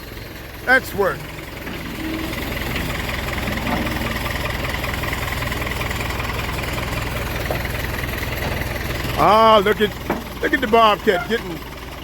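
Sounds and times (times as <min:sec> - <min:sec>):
loader engine running: 0:00.0 - 0:12.0.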